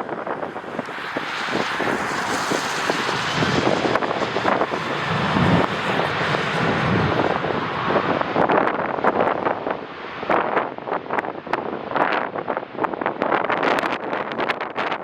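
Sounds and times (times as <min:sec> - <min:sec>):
jet airliner engines passing: 0:00.0 - 0:15.0
wind buffeting microphone: 0:00.0 - 0:15.0.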